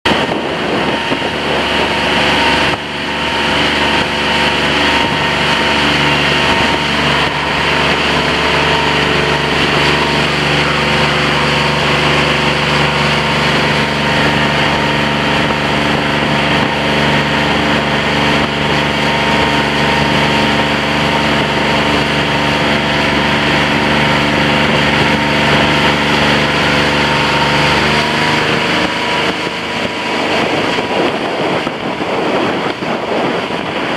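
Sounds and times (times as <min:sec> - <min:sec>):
boat motor running: 0:00.0 - 0:33.9
water rushing past hull: 0:00.0 - 0:33.9
wind: 0:00.0 - 0:33.9.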